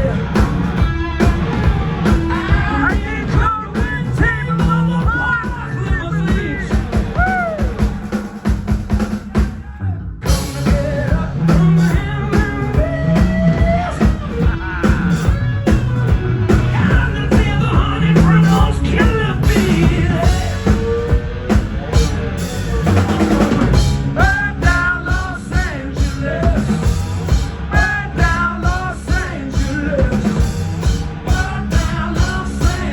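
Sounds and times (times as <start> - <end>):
electric guitar: 0.0 - 8.0, 10.3 - 32.9
bass guitar: 0.0 - 32.9
drum kit: 0.0 - 32.9
person singing: 2.3 - 7.8, 10.3 - 32.9.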